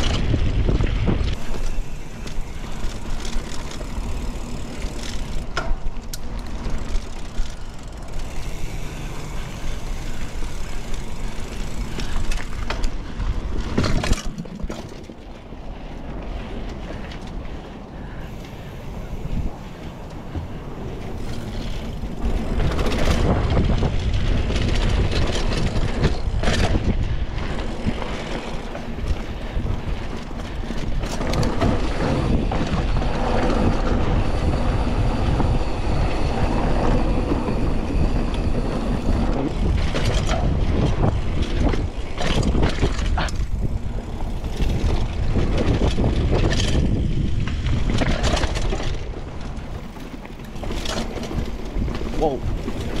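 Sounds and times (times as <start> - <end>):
bike clacks and rattles: 0.0 - 53.0
tyres rolling over dirt and leaves: 0.0 - 53.0
wind rumble on microphone: 0.0 - 53.0.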